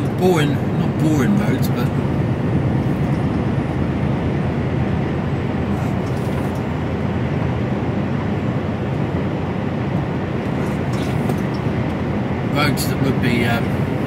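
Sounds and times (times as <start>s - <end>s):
lorry engine drone: 0.0s - 14.0s.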